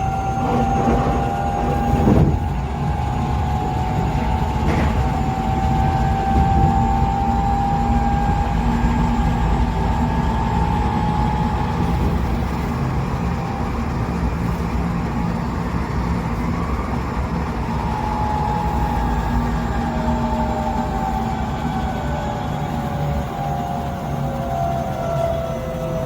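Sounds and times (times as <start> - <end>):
wheel-on-rail rumble: 0.0 - 26.0
whining train running tones: 0.0 - 26.0.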